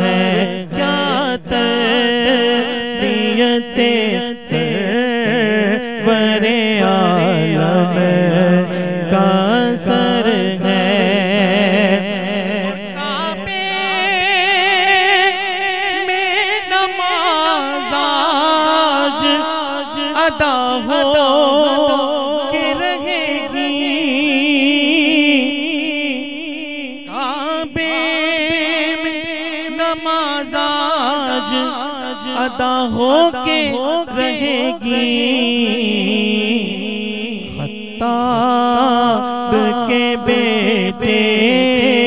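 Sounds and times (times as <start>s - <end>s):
man singing devotional song: 0.0s - 42.0s.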